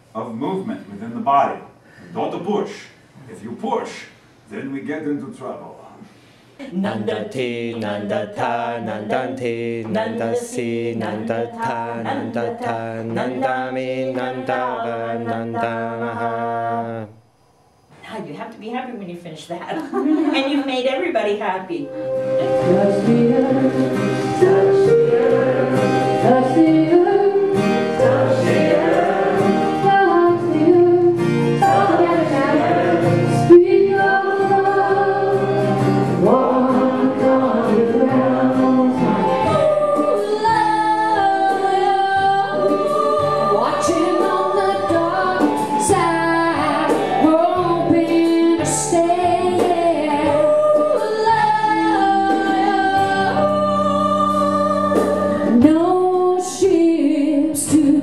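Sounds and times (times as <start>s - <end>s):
voices singing with accompaniment: 6.0s - 17.2s, 21.8s - 58.0s.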